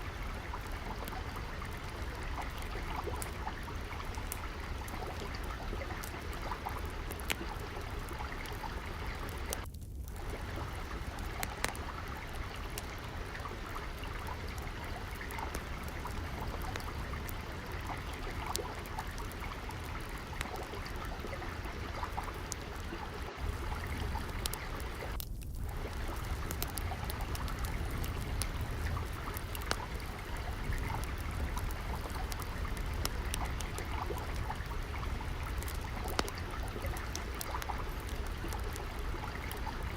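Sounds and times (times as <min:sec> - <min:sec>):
trickling flowing water: 0:00.0 - 0:39.9
wood fire crackling: 0:00.0 - 0:39.9.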